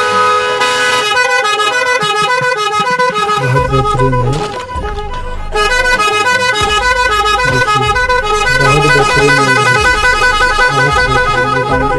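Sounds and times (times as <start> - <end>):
electronic bike horn melody: 0.0 - 11.9.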